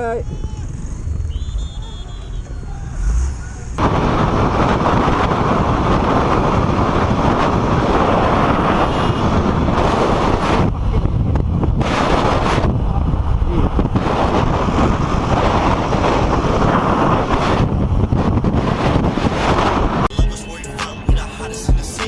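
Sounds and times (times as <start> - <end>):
wind rushing over microphone: 0.0 - 20.1.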